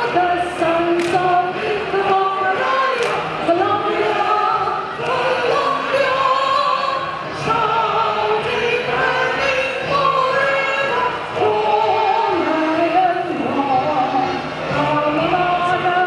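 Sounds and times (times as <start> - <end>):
large choir singing: 0.0 - 16.0.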